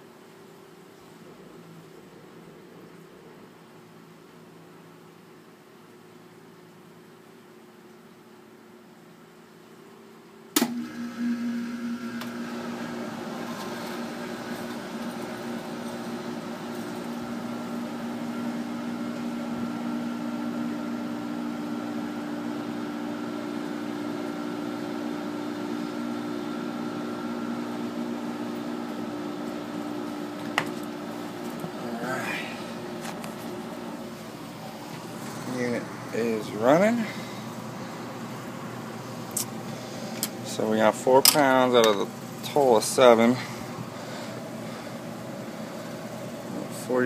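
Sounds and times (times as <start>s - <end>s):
heat pump humming: 6.3s - 47.0s.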